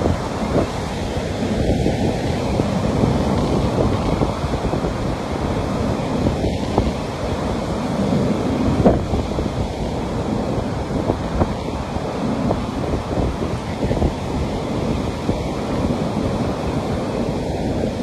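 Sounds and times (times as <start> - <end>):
sea waves washing onto beach: 0.0 - 18.0
wind buffeting microphone: 0.0 - 18.0.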